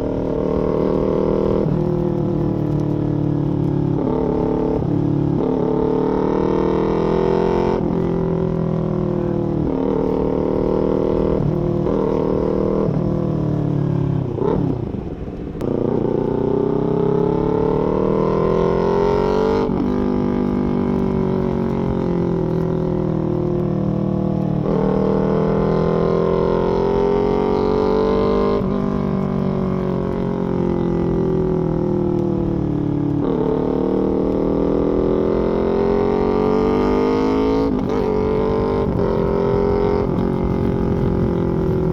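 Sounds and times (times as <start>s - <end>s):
motorcycle accelerating through gears: 0.0s - 41.9s.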